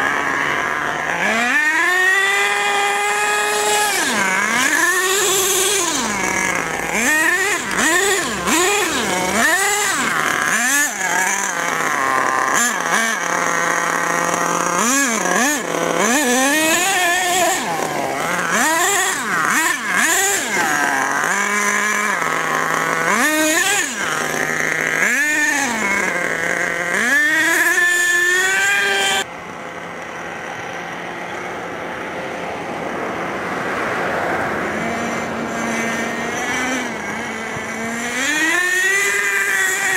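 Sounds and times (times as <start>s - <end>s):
model engine revving: 0.0s - 32.4s, 33.0s - 39.9s
car passing: 1.0s - 29.2s, 31.2s - 39.9s.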